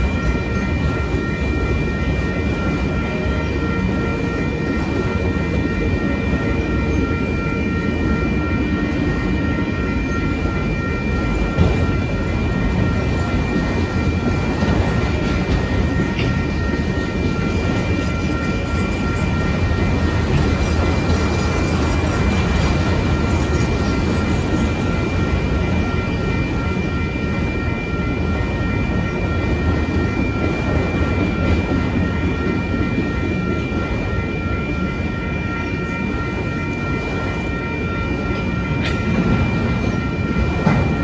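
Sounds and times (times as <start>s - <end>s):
crossing warning bell ringing: 0.0s - 41.0s
train wheels rumbling on rails: 0.0s - 41.0s.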